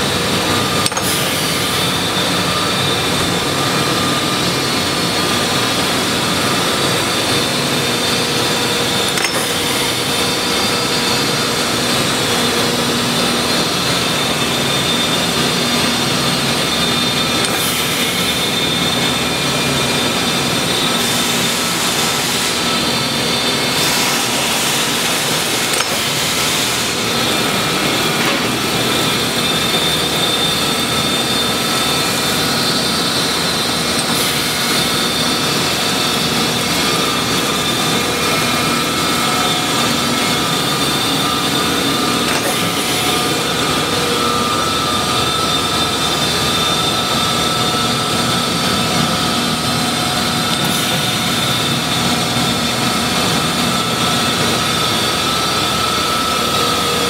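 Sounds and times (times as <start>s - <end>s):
surface grinder whining: 0.0s - 57.0s.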